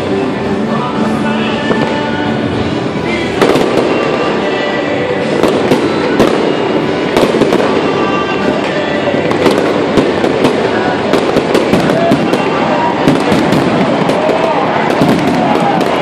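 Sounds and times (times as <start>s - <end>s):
fireworks crackling: 0.0s - 16.0s
fireworks sharp bangs: 1.4s - 16.0s.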